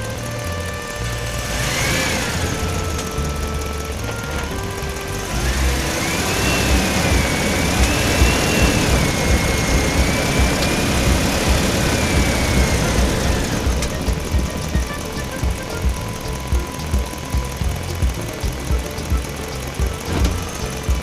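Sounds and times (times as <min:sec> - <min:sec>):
high wavering whine: 0:00.0 - 0:21.0
short stepped notes: 0:00.0 - 0:21.0
vehicle engine running: 0:00.0 - 0:21.0.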